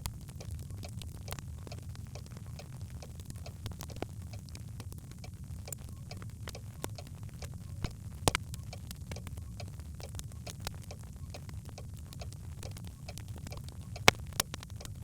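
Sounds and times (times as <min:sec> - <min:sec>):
logs crackling in a fireplace: 0:00.0 - 0:15.0.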